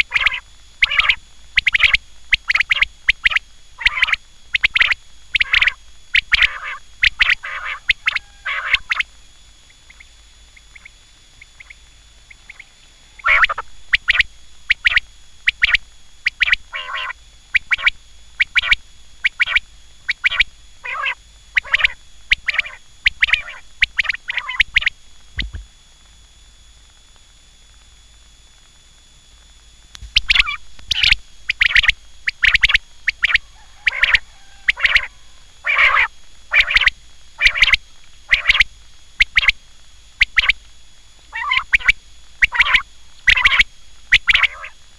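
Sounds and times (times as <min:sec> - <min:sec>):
quail calling: 0:00.0 - 0:09.1, 0:09.8 - 0:25.6, 0:30.1 - 0:39.6, 0:40.2 - 0:40.6, 0:41.3 - 0:44.8.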